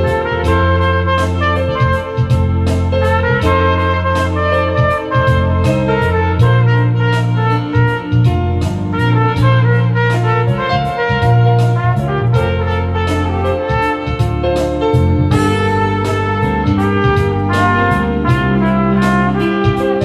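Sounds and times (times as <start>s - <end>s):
bass line: 0.0s - 20.0s
steady drum beat: 0.0s - 20.0s
trumpet melody: 0.0s - 20.0s.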